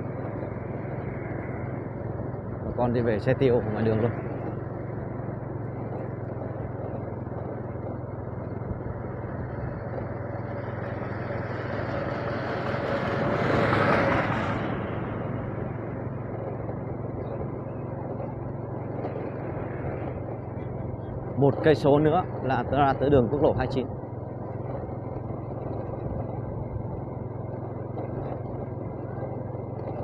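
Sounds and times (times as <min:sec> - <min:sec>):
vehicle passing: 0:00.0 - 0:28.6
road and wind noise: 0:00.0 - 0:30.0.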